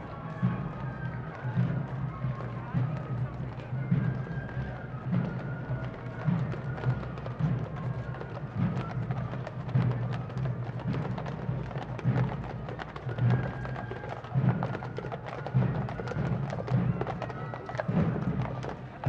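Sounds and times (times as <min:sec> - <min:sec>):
horse hooves clip-clopping on pavement: 0:00.0 - 0:19.0.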